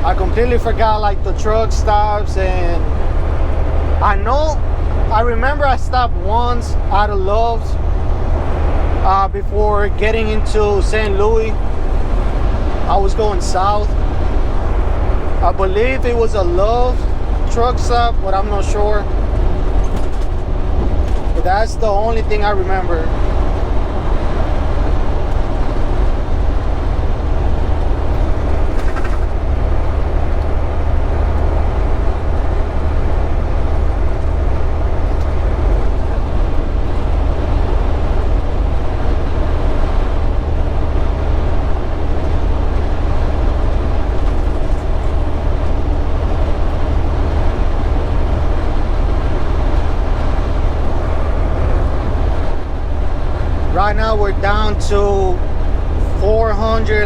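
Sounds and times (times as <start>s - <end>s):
diesel engine rumble: 0.0s - 57.0s
road noise: 0.0s - 57.0s.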